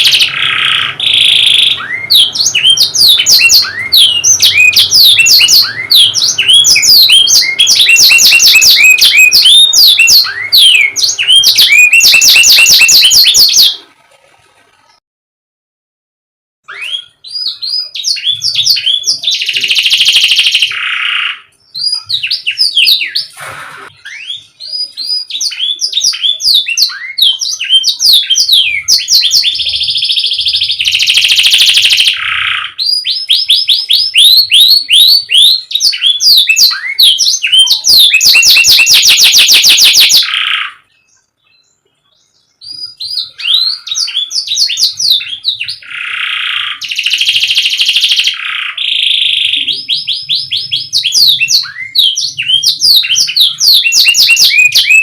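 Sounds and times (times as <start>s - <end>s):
canary singing trills: 0.0s - 13.9s, 16.7s - 55.0s.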